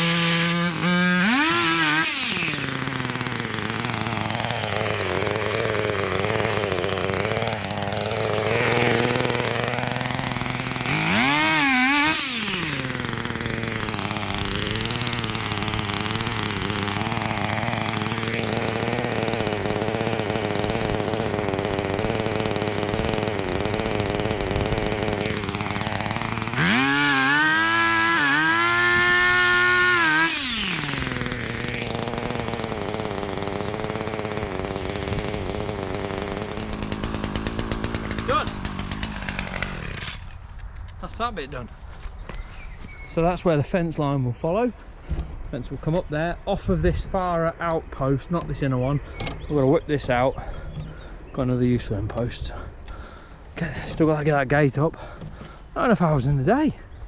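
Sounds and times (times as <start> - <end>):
chainsaw engine idling and revving: 0.0 - 40.7, 51.8 - 57.0.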